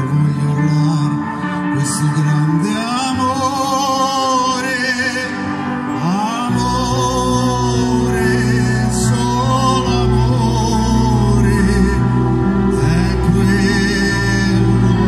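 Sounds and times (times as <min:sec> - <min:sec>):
backing music: 0:00.0 - 0:15.0
deep bass line: 0:00.0 - 0:15.0
man singing with vibrato: 0:00.0 - 0:15.0.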